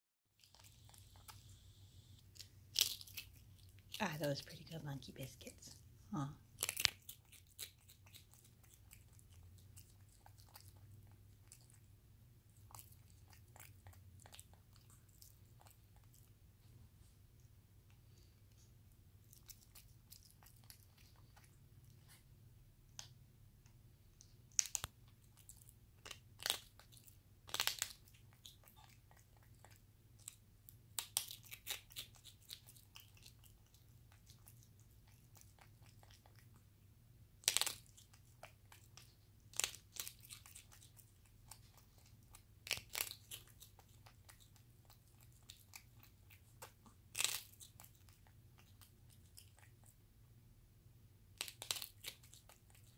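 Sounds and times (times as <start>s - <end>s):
monkey chewing: 0.4s - 4.9s, 6.4s - 16.4s, 17.9s - 22.2s, 24.1s - 36.6s, 37.4s - 50.0s, 51.4s - 52.9s
monkey crunching biscuit: 2.2s - 5.8s, 6.5s - 16.4s, 18.2s - 22.2s, 24.1s - 36.6s, 37.4s - 49.9s, 51.3s - 52.9s.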